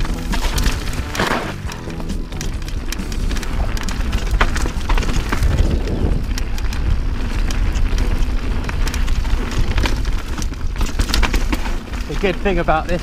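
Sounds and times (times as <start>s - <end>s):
tyres crunching over stones: 0.0s - 13.0s
wind rumble on microphone: 2.4s - 13.0s.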